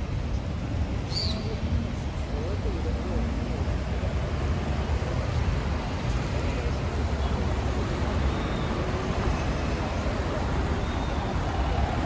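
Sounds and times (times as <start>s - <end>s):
cars and van driving past: 1.7s - 12.0s.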